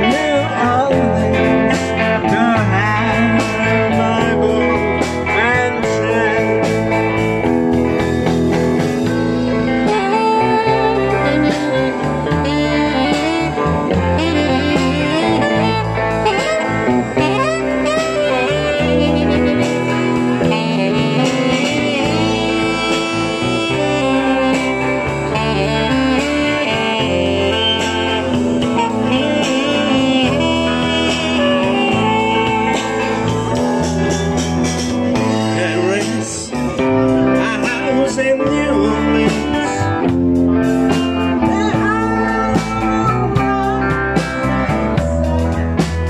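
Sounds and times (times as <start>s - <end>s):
blues-rock band playing: 0.0s - 46.0s
lead guitar melody bending: 0.0s - 46.0s.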